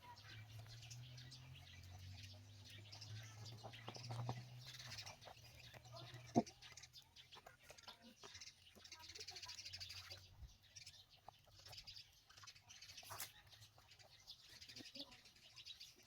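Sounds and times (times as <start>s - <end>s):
faint high-pitched bird chirping: 0.0s - 16.0s.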